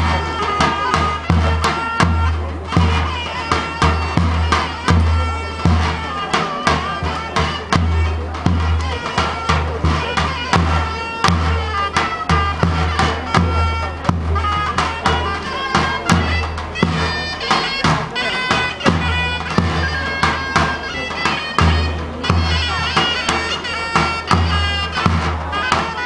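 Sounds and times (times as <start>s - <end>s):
drum strokes with low beat: 0.0s - 26.0s
shrill reed wind instrument: 0.0s - 26.0s.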